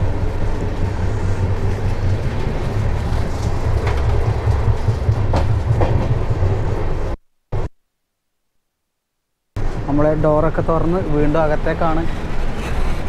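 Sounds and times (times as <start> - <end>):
train rumbling and rattling: 0.0 - 7.2, 9.6 - 13.0.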